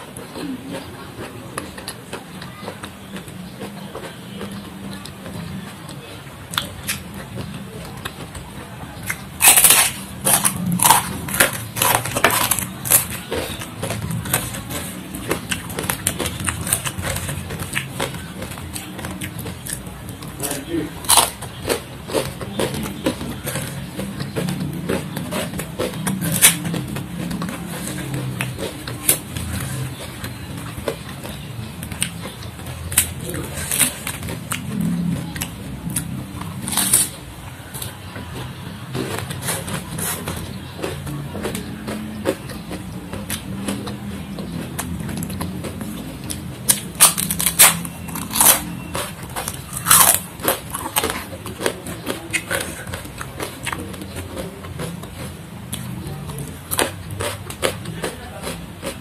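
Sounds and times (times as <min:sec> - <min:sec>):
eating clicks and crackles: 0:00.0 - 0:59.0
soft chewing: 0:00.0 - 0:59.0.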